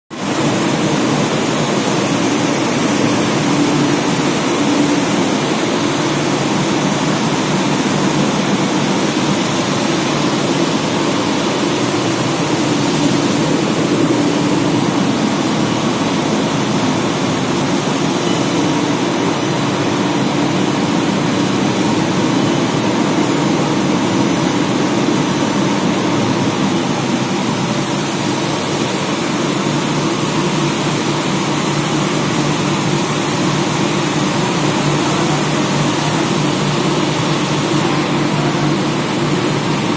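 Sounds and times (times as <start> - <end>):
industrial machinery humming: 0.1 - 39.9.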